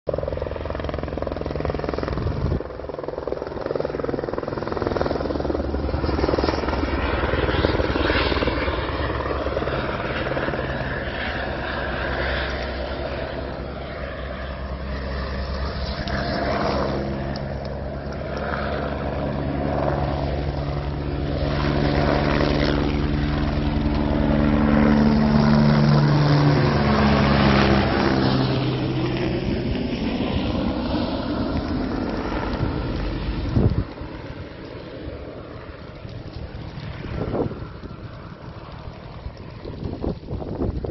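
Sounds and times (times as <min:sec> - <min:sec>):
engine drone: 0:00.1 - 0:40.9.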